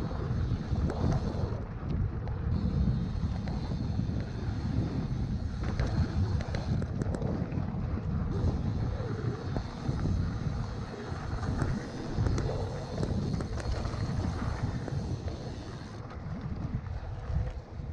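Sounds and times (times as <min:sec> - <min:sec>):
bike rattles and clicks: 0:00.0 - 0:17.9
bike tyres rumbling on trail: 0:00.0 - 0:17.9
wind rushing over microphone: 0:00.0 - 0:17.9.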